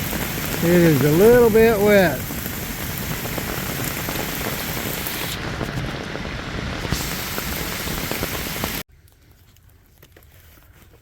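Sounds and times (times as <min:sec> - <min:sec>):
heavy rain falling: 0:00.0 - 0:08.9.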